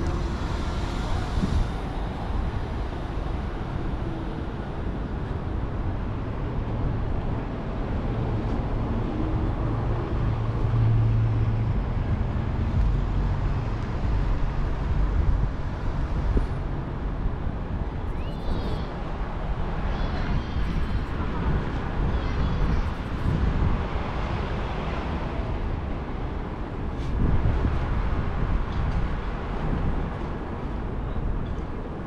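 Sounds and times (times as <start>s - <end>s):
low engine hum: 0.0s - 32.0s
vehicles rumbling on road: 0.0s - 32.0s.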